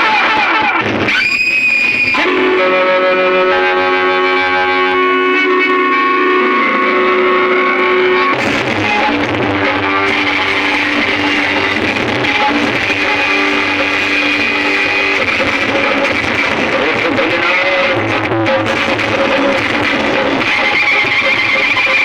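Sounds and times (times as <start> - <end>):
guitar background music: 0.0 - 22.0.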